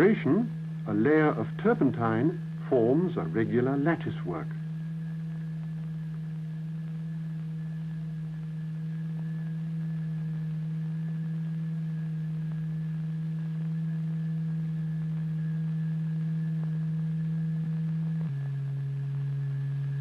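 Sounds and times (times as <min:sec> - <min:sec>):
steady low sine tone hum: 0:00.0 - 0:20.0.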